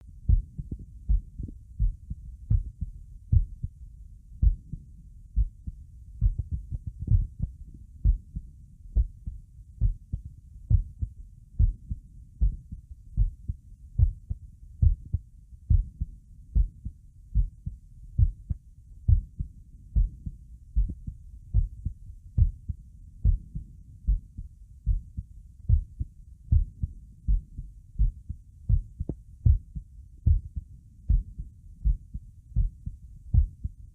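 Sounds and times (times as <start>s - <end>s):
heartbeat thumps: 0.1s - 3.8s, 4.4s - 33.9s.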